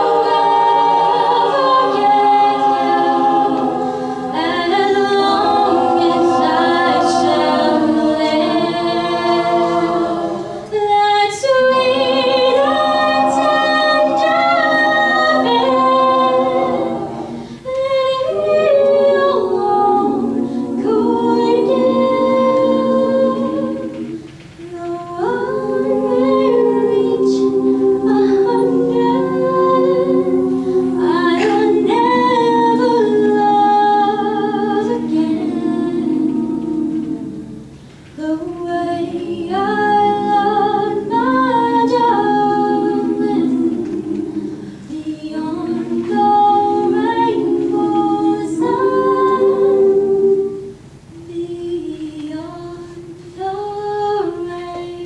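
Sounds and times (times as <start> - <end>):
a cappella group singing in harmony: 0.0 - 55.0.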